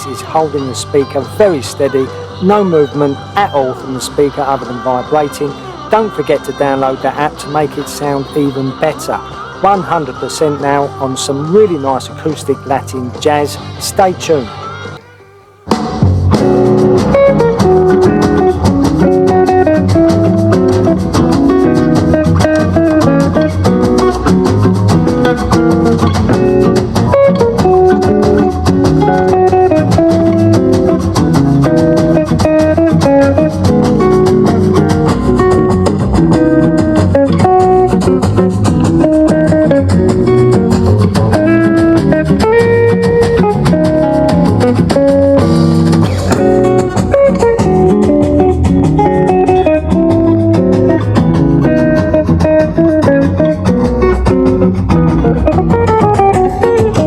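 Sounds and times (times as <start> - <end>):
latin jazz through speaker: 0.0 - 57.0
plucked guitar: 0.0 - 57.0.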